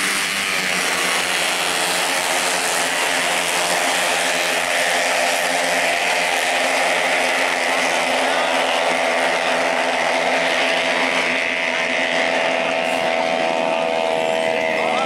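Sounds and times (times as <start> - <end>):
scooter engines buzzing: 0.0 - 15.0.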